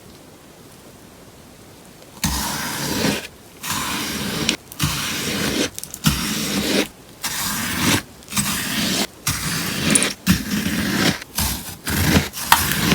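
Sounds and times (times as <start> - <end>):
sponge being cut crunchily: 2.2 - 12.9.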